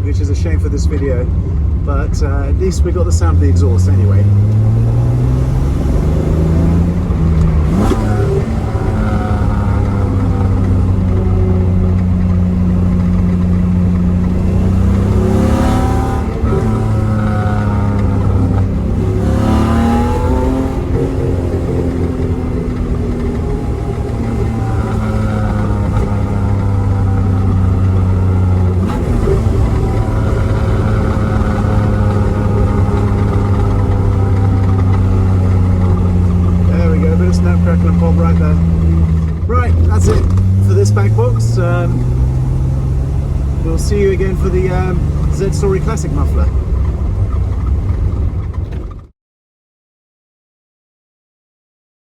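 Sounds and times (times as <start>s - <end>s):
car exhaust note: 0.0s - 48.5s.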